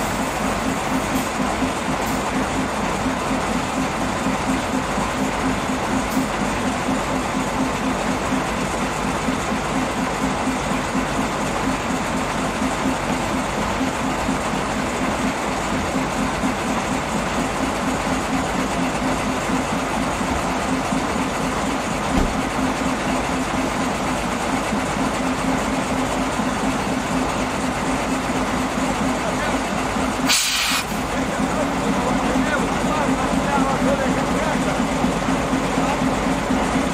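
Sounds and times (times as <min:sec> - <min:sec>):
diesel locomotive engine idling: 0:00.0 - 0:36.9.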